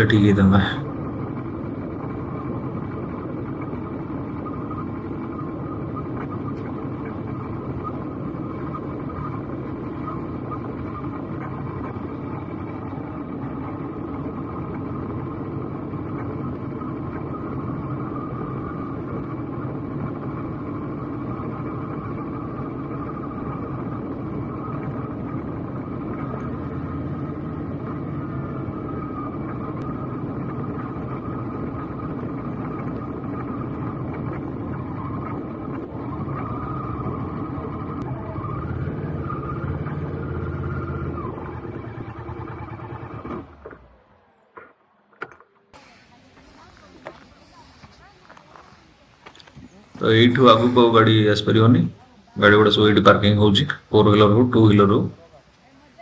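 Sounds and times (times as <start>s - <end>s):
motorcycle engine running: 0.0s - 52.0s
road noise: 0.0s - 56.0s.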